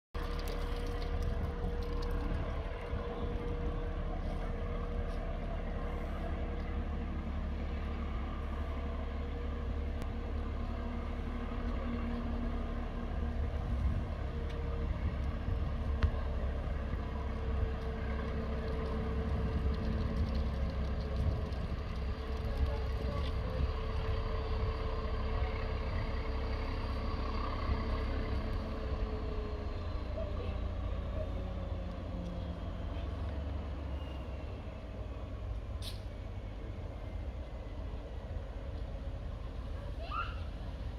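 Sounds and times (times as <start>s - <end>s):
locomotive engine idling: 0.2s - 40.9s.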